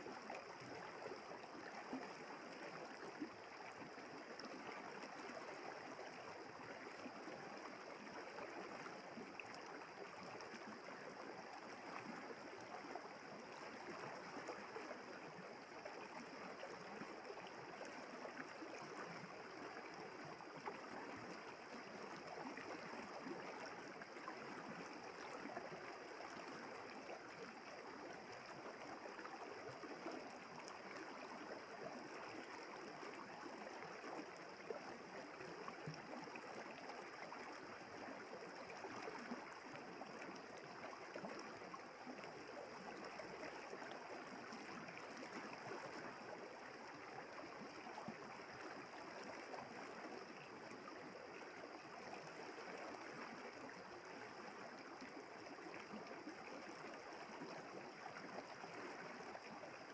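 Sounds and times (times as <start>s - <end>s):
river water flowing and babbling: 0.0s - 59.9s.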